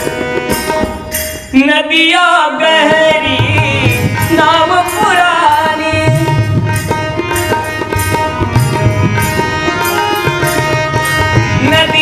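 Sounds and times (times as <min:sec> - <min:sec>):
harmonium notes: 0:00.0 - 0:12.0
tabla rhythm: 0:00.0 - 0:12.0.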